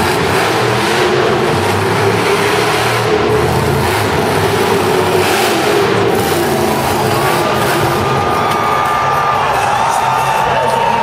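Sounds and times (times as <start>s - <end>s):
monster truck engines droning: 0.0s - 11.0s.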